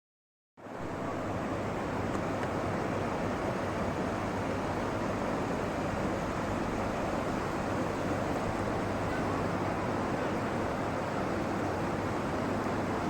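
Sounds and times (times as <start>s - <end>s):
fast-flowing river water: 0.6s - 13.0s.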